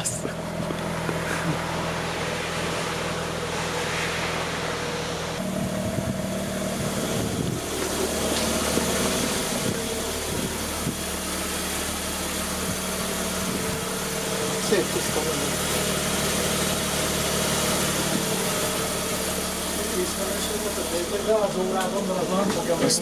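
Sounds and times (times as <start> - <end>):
rotary engine idling: 0.0 - 23.0.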